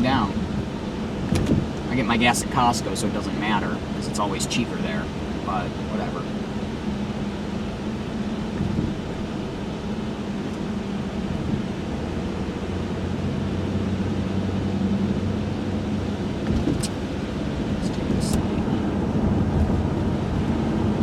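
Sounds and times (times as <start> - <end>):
low engine drone: 0.0 - 21.0
road noise: 0.0 - 21.0.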